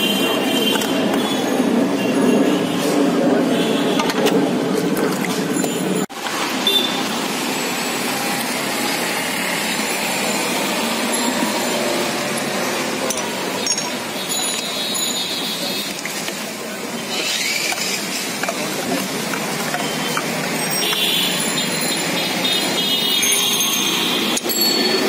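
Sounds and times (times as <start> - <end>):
steady traffic noise: 0.0 - 25.0.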